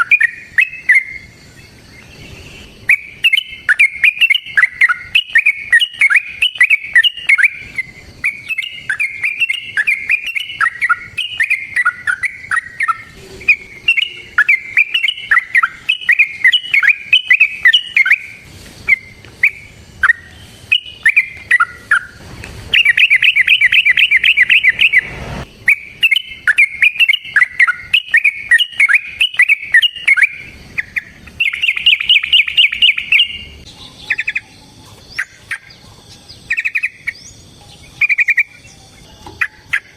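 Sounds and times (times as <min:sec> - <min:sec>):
bird rapid-fire trill: 0:00.0 - 0:39.9
bird singing chattering phrases: 0:00.0 - 0:39.9.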